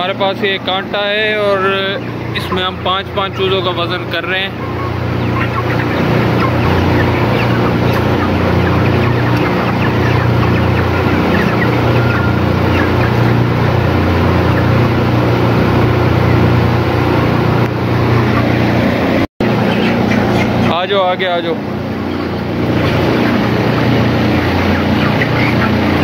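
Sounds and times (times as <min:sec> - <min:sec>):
chickens clucking and chirping: 0:00.0 - 0:26.0
loud low machine hum: 0:00.0 - 0:26.0.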